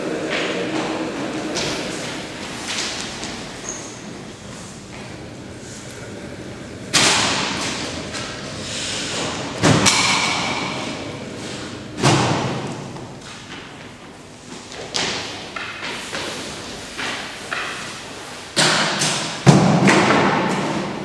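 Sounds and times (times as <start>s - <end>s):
heavy thuds in echoing room: 0.0s - 5.6s, 6.4s - 21.0s.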